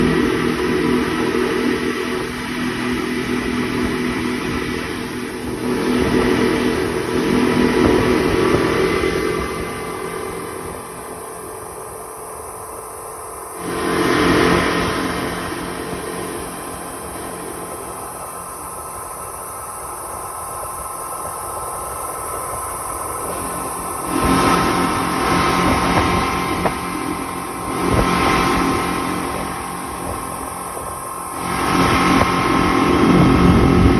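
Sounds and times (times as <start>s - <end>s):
speedboat engine hum: 0.0s - 33.9s
water rushing noise: 0.0s - 33.9s.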